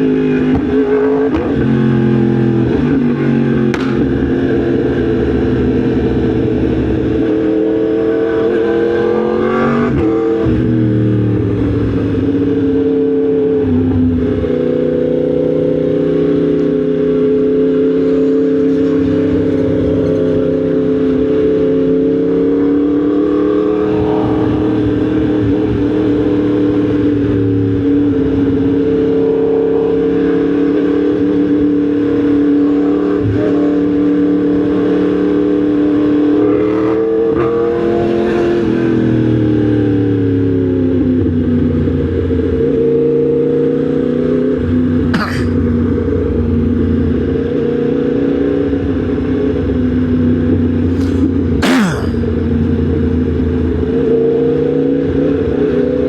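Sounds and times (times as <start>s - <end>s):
motorcycle engine running: 0.0s - 37.4s, 44.0s - 56.0s
wind and road rush: 0.0s - 56.0s.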